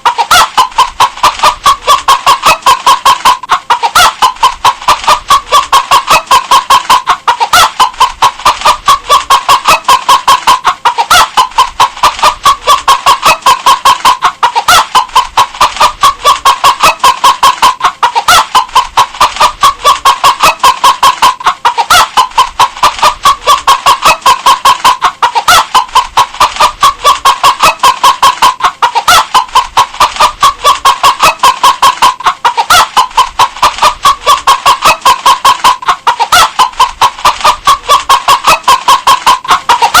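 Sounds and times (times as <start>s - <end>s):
hen clucking: 0.0s - 40.0s.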